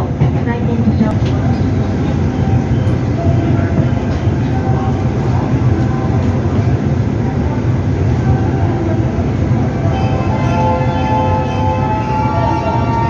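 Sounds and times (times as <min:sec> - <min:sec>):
busy platform noise: 0:00.0 - 0:13.0
electric train rumbling: 0:00.0 - 0:13.0.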